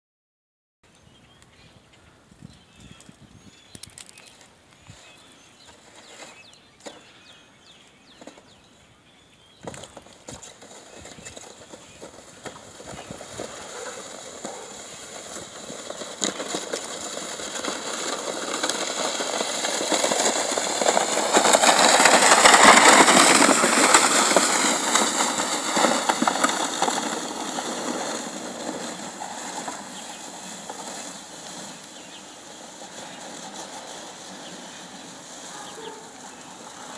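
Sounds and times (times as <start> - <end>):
plastic sled scraping on snow: 3.1 - 8.8, 9.5 - 36.9.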